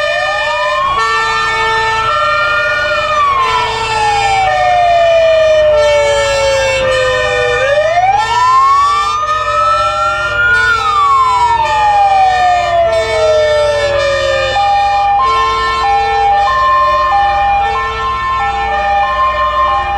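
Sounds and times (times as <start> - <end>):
two-tone sirens: 0.0 - 19.9
vehicle engines running low: 0.0 - 19.9
wailing siren: 0.0 - 19.9.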